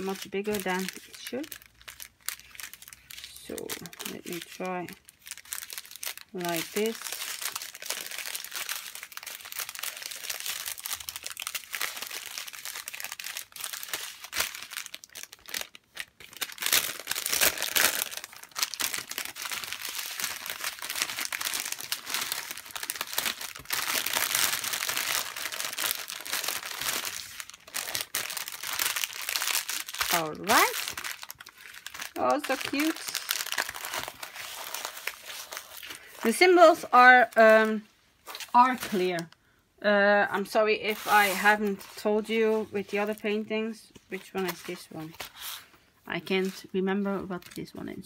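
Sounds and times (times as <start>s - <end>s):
plastic film crinkling: 0.0s - 39.4s, 40.4s - 48.0s.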